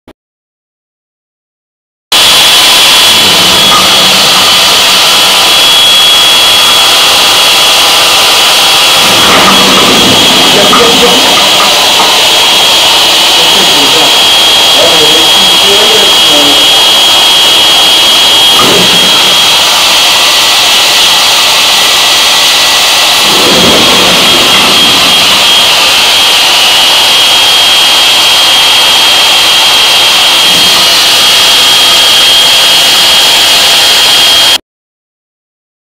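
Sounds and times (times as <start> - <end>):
thin high-pitched whine: 2.1 - 34.6
loud steady hiss: 2.2 - 34.6.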